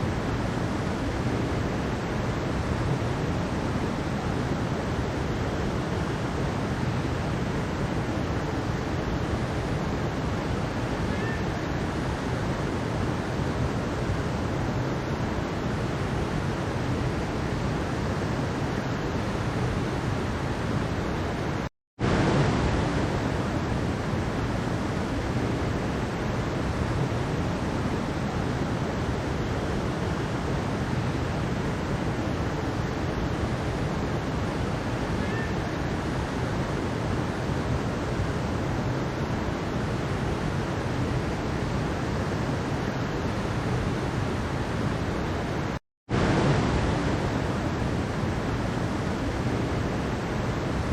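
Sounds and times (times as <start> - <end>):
mountain stream flowing: 0.0 - 50.9.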